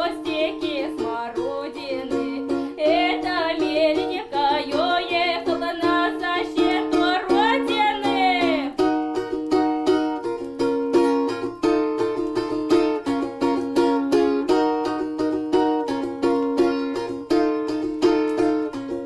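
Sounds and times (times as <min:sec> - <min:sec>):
plucked string instrument: 0:00.0 - 0:19.0.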